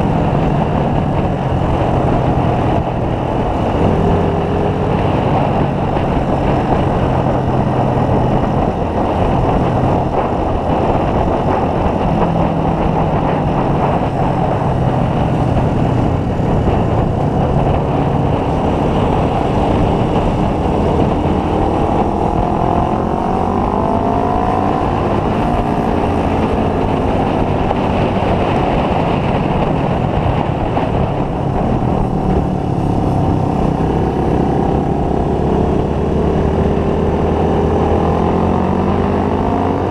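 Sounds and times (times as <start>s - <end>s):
motorcycle engine running: 0.0s - 39.9s
steady rush of noise: 0.0s - 39.9s.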